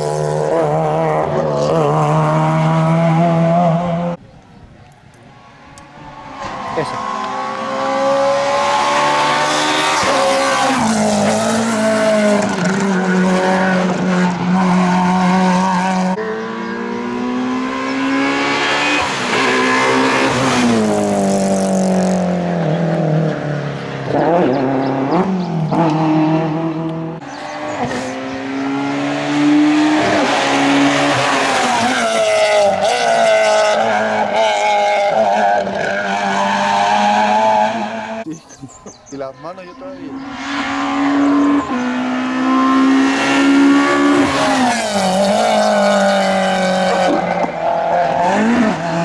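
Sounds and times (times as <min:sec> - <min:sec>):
rally car engines revving: 0:00.0 - 0:04.2, 0:05.3 - 0:49.0.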